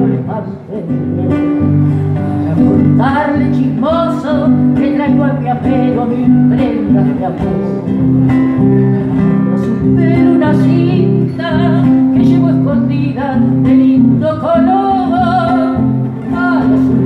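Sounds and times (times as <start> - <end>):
acoustic guitar strummed: 0.0 - 17.0
woman singing: 2.2 - 8.0, 9.1 - 17.0.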